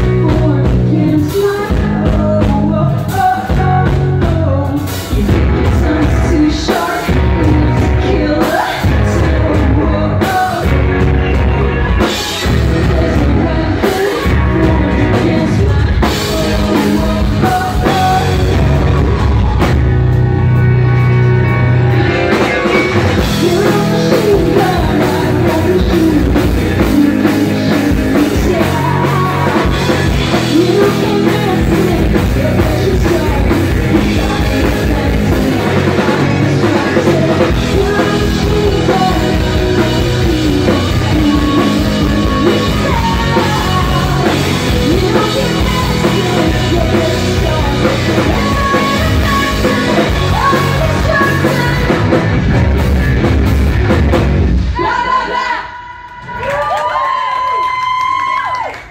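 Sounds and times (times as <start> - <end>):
woman singing into microphone: 0.0 - 19.0, 23.2 - 52.1
live rock band playing: 0.0 - 55.0.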